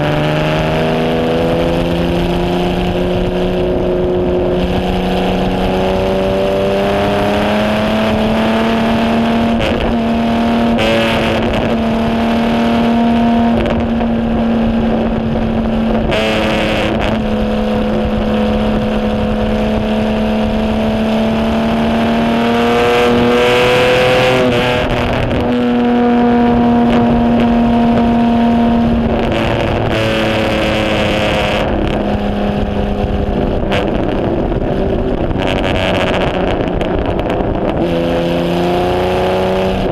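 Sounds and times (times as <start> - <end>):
racing engine revving: 0.0 - 39.9.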